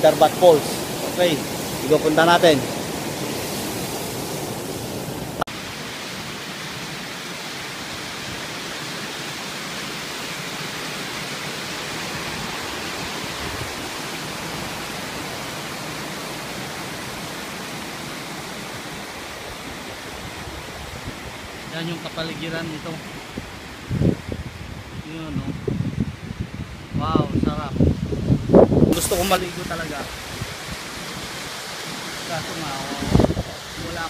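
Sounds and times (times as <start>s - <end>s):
stream water rushing over rock: 0.0s - 24.2s, 28.9s - 34.0s.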